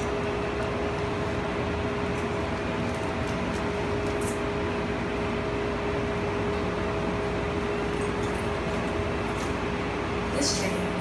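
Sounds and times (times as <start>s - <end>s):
people-mover car mechanical hum: 0.0s - 11.0s.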